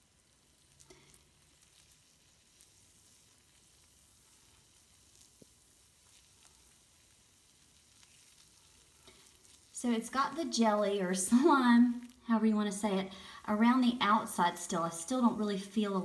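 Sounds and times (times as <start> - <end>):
bath bomb fizzing crackle: 0.0 - 16.0.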